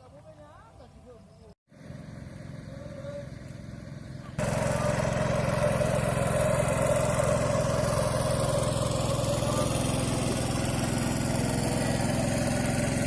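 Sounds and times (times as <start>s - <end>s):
small engine running: 1.7s - 13.0s.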